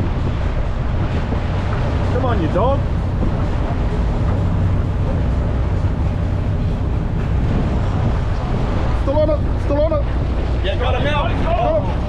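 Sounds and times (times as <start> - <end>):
boat engine drone: 0.0 - 12.0
churning water rushing: 0.0 - 12.0
wind: 0.0 - 12.0.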